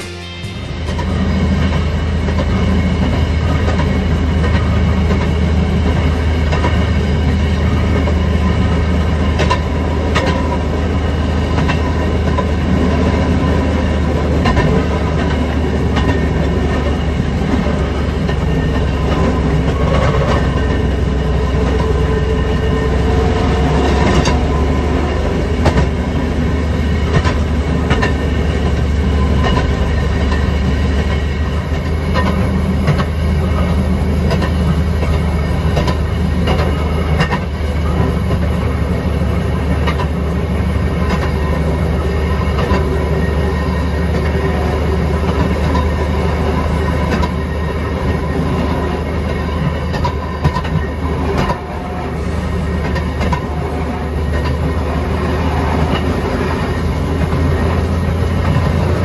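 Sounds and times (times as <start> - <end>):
low engine drone: 0.0 - 59.0
wheels clattering over rail joints: 0.9 - 59.0.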